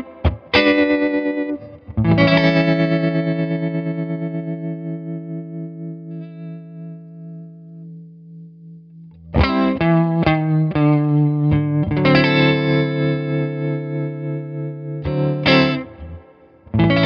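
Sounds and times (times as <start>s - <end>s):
electric guitar chords with vibrato: 0.0s - 17.0s.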